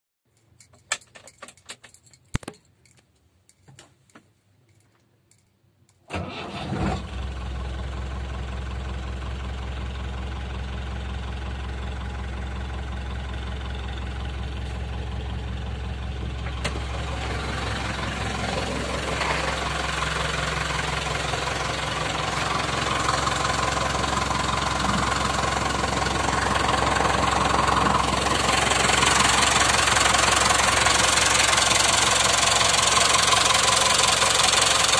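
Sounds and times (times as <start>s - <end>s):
diesel engine starting and idling: 6.1s - 34.9s.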